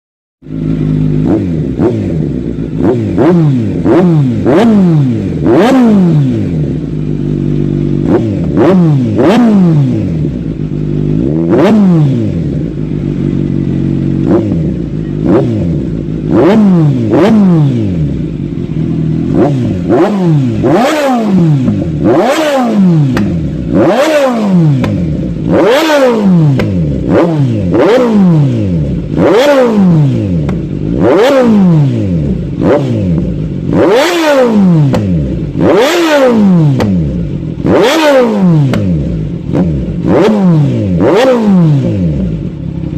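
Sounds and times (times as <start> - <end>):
motorcycle engine revving: 0.4 - 42.9.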